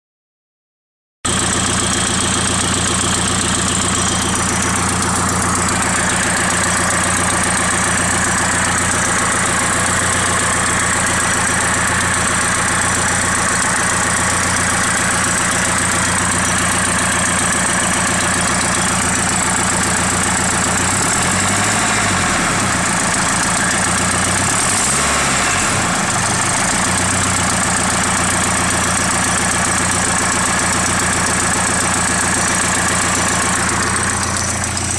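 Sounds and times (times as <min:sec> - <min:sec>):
car engine idling: 0:01.3 - 0:34.9.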